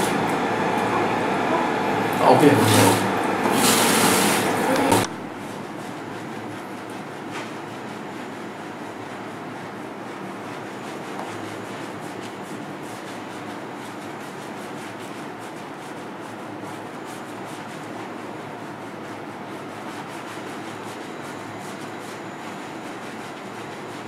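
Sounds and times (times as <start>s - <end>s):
hands scrubbing lathered hair: 2.2s - 24.0s.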